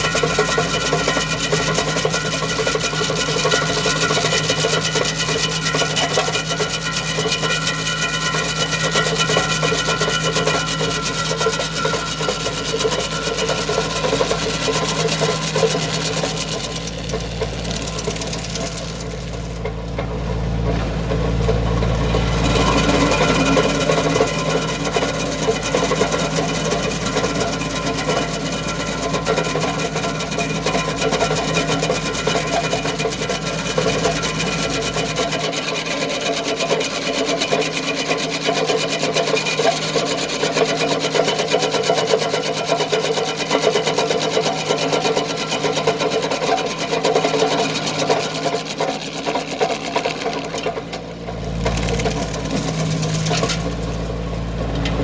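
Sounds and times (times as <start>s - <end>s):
stump grinder rasping wood: 0.0s - 55.0s
tractor engine under load: 0.0s - 55.0s.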